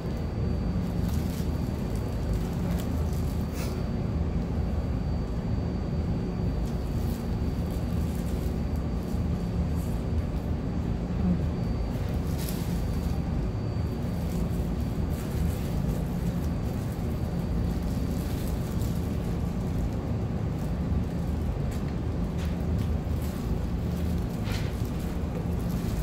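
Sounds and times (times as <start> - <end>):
faint high whine: 0.0 - 26.0
low rumbling background noise: 0.0 - 26.0.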